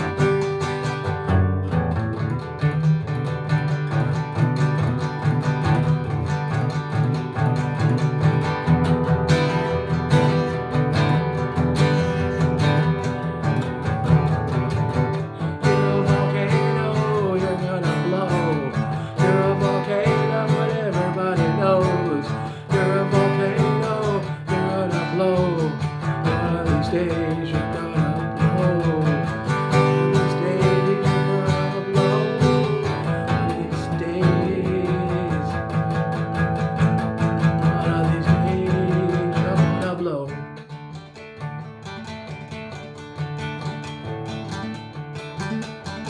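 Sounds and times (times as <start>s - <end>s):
sliding lead guitar melody: 0.0s - 46.0s
strummed acoustic guitar: 0.0s - 46.0s.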